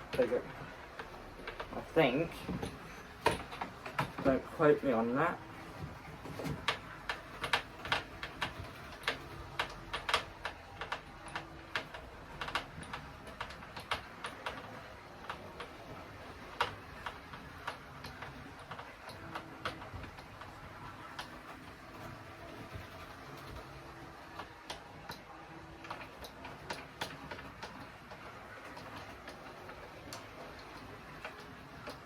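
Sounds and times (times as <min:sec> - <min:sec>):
parts clicking and tapping: 0:00.0 - 0:04.5, 0:05.6 - 0:32.0.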